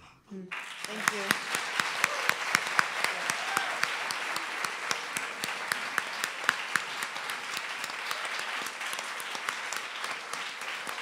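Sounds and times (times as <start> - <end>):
audience applauding: 0.5 - 11.0
sharp nearby claps: 0.5 - 11.0.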